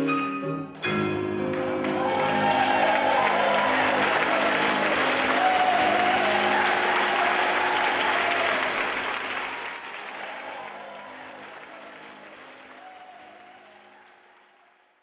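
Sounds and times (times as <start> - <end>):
audience applauding: 1.4 - 15.0.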